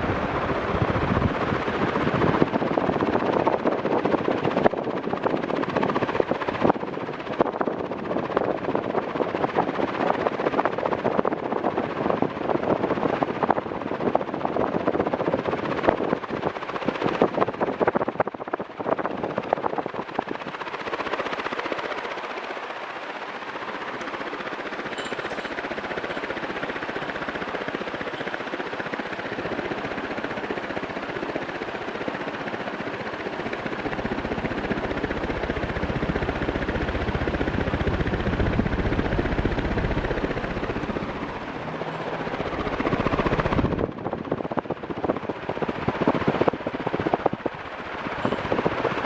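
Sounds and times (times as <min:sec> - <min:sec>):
ceiling fan rush of air: 0:00.0 - 0:49.0.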